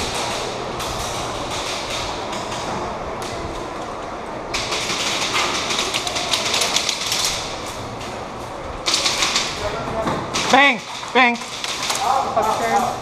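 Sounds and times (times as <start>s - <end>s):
airsoft guns clicking and rattling: 0.0s - 3.7s, 4.5s - 8.2s, 8.8s - 9.7s, 10.3s - 13.0s.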